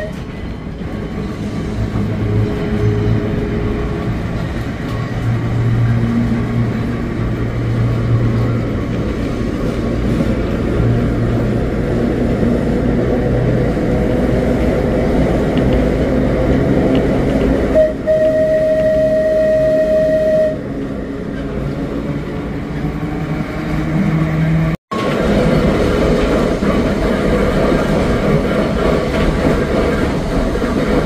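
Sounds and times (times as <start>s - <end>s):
tram wheels rumbling on rails: 0.0s - 31.0s.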